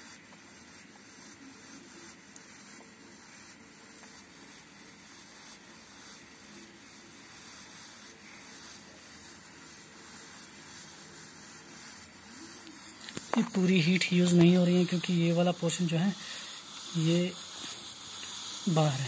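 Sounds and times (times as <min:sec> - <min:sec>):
hiss of water heating: 0:00.0 - 0:19.0.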